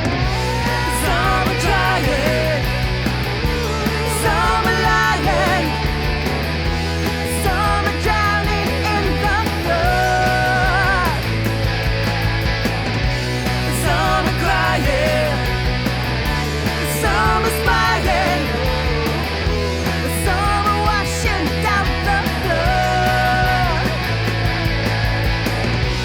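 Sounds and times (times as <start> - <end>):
bass: 0.0 - 26.0
drums: 0.0 - 26.0.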